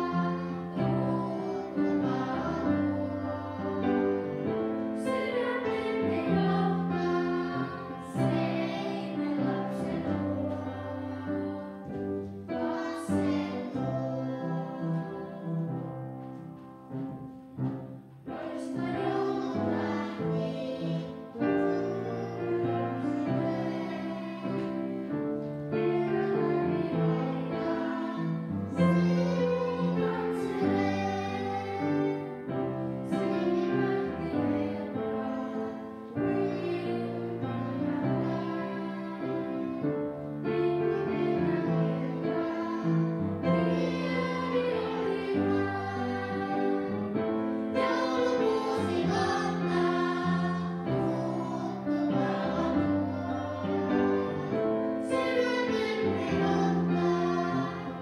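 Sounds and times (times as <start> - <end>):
children's choir singing: 0.0 - 58.0
upright piano accompaniment: 0.0 - 58.0.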